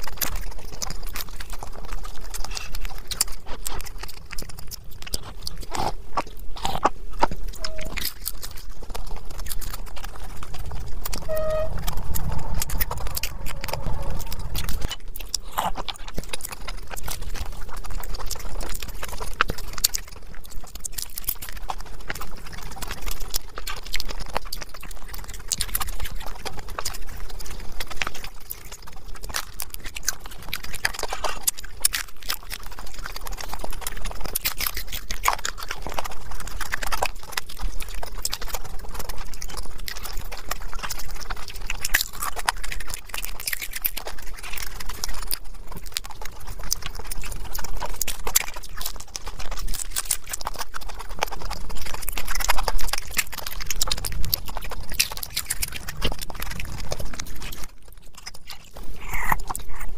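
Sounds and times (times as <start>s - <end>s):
crunching crisp pastry: 0.0s - 59.9s.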